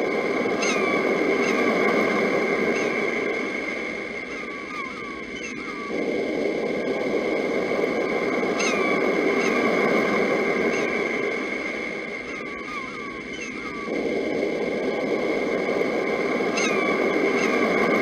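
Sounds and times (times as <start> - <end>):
birds chirping: 0.4 - 18.0.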